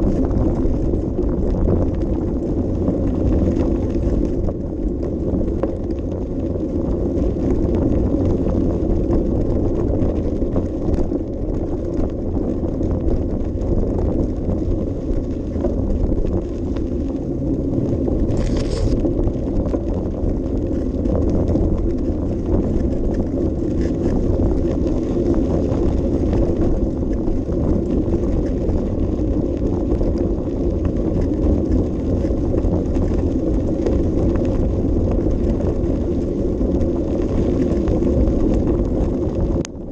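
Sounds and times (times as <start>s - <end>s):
bicycle riding rumble: 0.0s - 39.9s.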